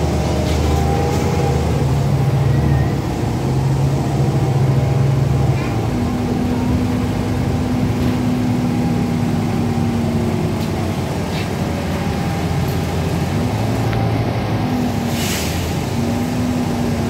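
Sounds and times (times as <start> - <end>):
bus engine drone: 0.0 - 17.0
road noise: 0.0 - 17.0.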